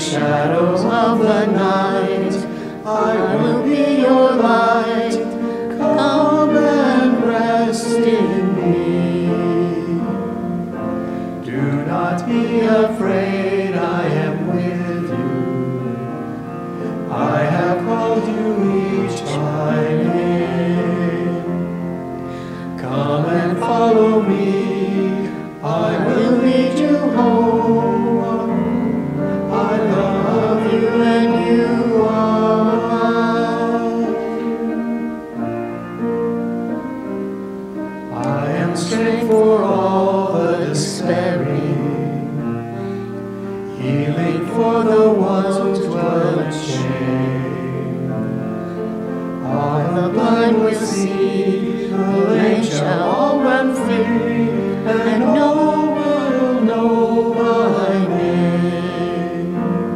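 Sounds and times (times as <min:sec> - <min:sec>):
group singing a hymn: 0:00.0 - 0:36.8, 0:37.7 - 0:59.9
instrumental accompaniment: 0:00.0 - 0:59.9.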